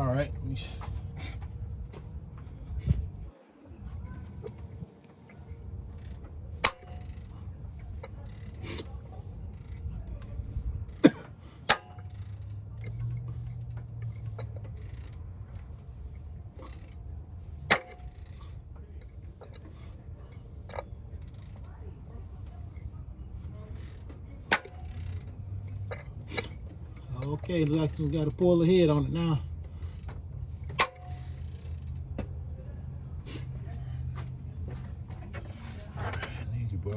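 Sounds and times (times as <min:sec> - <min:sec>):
car engine running with low hum: 0:00.0 - 0:36.9
sharp engine clicks: 0:04.0 - 0:36.9.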